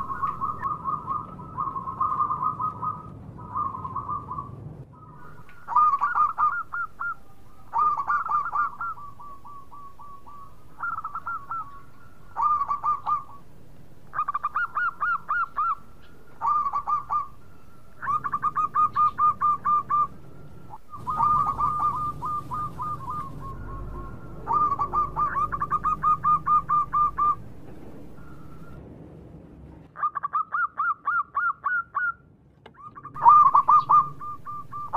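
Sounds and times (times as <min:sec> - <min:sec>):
dove cooing: 0:00.0 - 0:28.8, 0:30.0 - 0:34.9.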